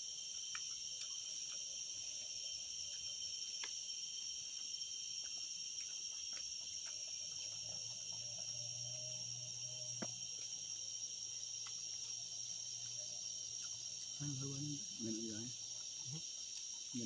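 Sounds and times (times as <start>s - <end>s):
faint low hum: 0.0s - 17.0s
high-pitched insect chorus: 0.0s - 17.0s.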